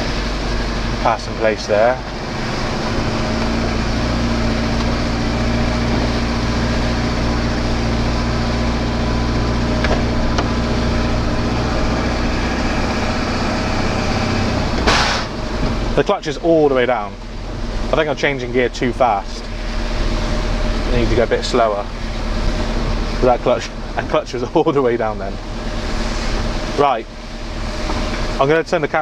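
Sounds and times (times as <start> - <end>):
truck diesel engine running: 0.0 - 29.0.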